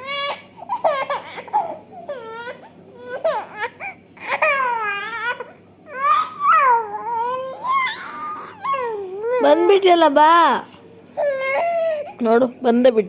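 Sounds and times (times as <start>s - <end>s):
baby crying: 0.0s - 10.0s, 11.2s - 12.2s.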